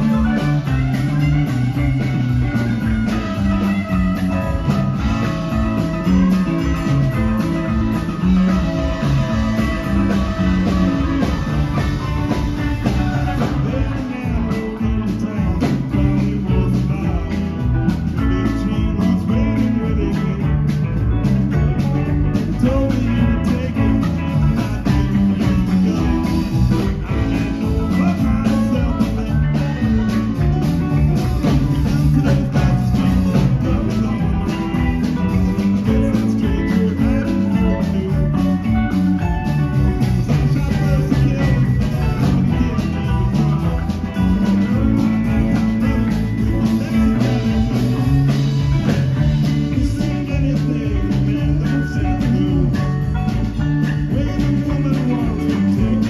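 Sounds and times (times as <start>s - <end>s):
bass guitar: 0.0s - 56.0s
drum kit beat: 0.0s - 56.0s
electric guitars: 0.0s - 56.0s
keyboard: 0.0s - 56.0s.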